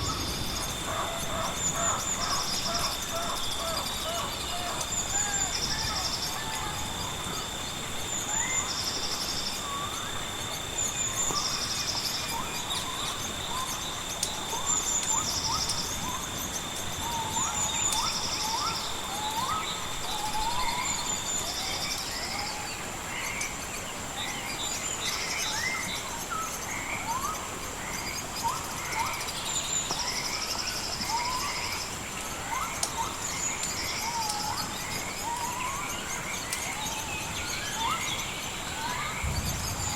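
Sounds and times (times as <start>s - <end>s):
birds chirping: 0.0s - 21.3s, 28.1s - 39.9s
high insect whine: 0.0s - 39.9s
insects buzzing in trills: 0.0s - 39.9s
steady background hiss: 0.0s - 39.9s.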